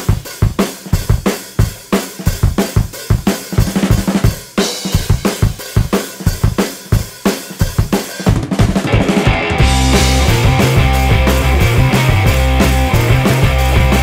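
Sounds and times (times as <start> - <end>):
music with drum-kit beat: 0.0 - 14.0.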